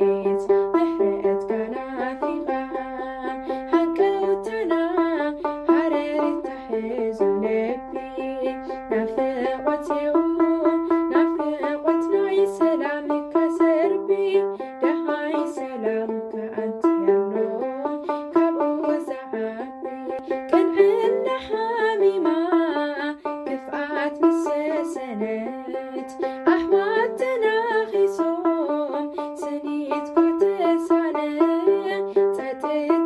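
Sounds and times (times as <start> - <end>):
plucked lyre melody: 0.0 - 33.0.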